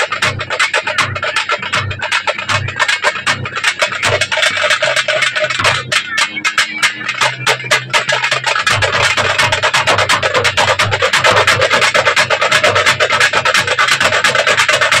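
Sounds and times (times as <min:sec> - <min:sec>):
deep drum beat: 0:00.0 - 0:15.0
frame drums beaten with sticks: 0:00.0 - 0:15.0.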